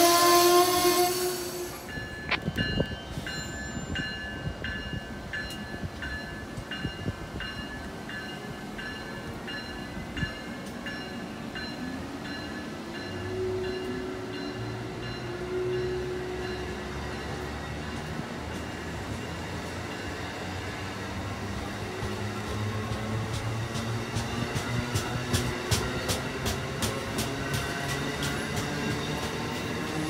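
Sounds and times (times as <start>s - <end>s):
train rail rumble: 0.0s - 30.0s.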